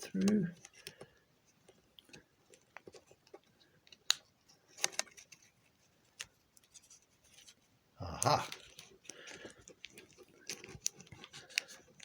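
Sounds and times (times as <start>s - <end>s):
plastic buckle clicks and rustles: 0.1s - 7.5s, 8.4s - 12.0s.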